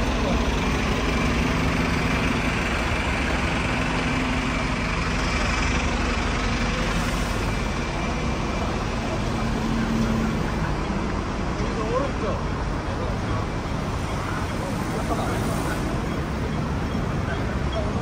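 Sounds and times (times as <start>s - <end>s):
city street traffic: 0.0s - 18.0s
engine running: 0.0s - 18.0s.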